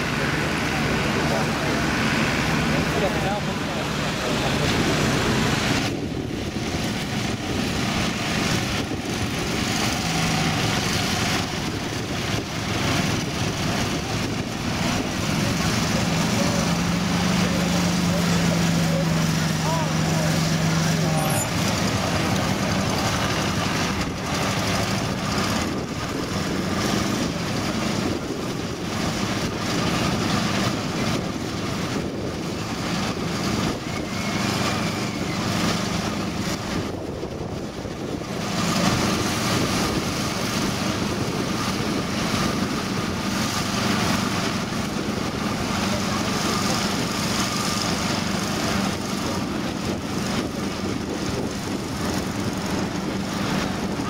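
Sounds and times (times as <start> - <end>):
combine harvesters clattering: 0.0 - 54.0.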